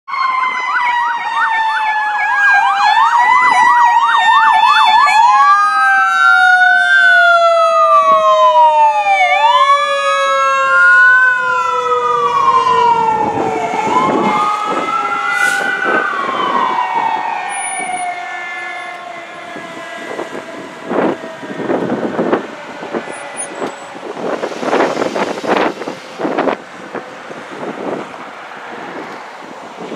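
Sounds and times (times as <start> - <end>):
electronic siren yelp and wail: 0.1 - 24.8
mechanical siren winding down: 0.1 - 24.8
fire truck passing: 0.1 - 29.9.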